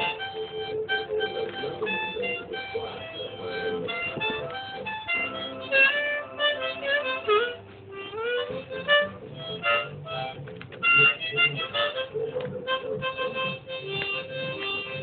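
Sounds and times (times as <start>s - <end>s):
harmonica tune: 0.0s - 15.0s.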